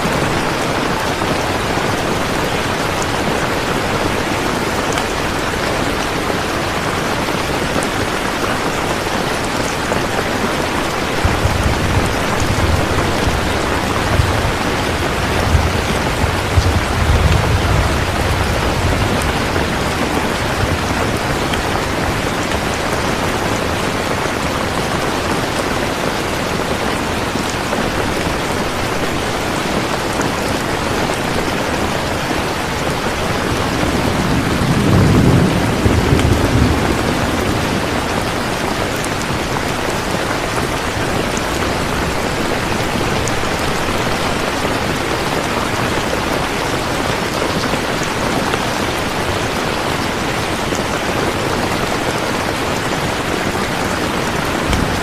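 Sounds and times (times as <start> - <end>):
rain falling: 0.0 - 55.0
thunder rumbling: 8.4 - 48.4, 49.0 - 55.0.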